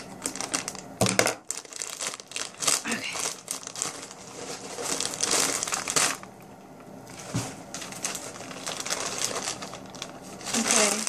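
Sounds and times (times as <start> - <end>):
packaging wrap crinkling: 0.0 - 6.4, 7.1 - 11.0.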